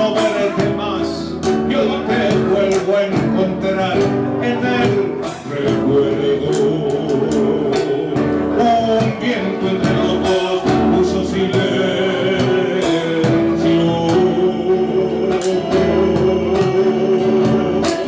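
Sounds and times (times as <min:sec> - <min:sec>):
man singing: 0:00.0 - 0:18.0
percussion struck with sticks: 0:00.0 - 0:18.0
strummed classical guitar: 0:00.0 - 0:18.0.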